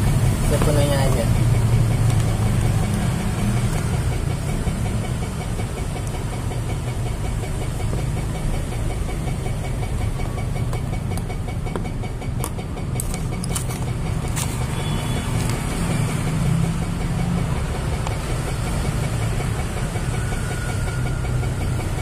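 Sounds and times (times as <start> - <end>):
engine idling: 0.0 - 22.0
road traffic noise: 0.0 - 22.0
sharp clicks and knocks: 0.0 - 22.0.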